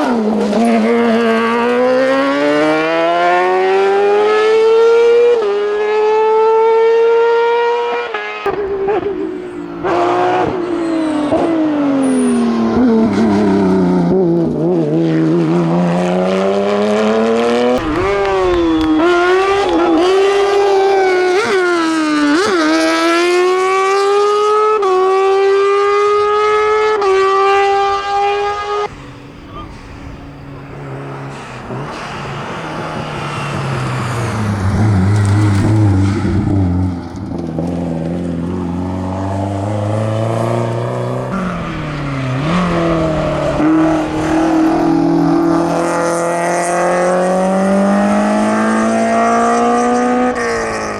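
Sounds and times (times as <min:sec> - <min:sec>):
race car engines at full throttle: 0:00.0 - 0:50.9.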